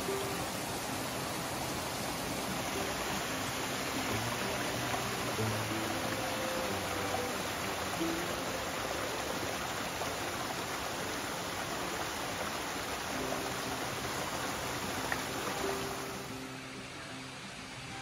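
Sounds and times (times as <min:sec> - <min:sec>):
creek rushing over boulders: 0:00.0 - 0:18.0
faint background music: 0:00.0 - 0:18.0.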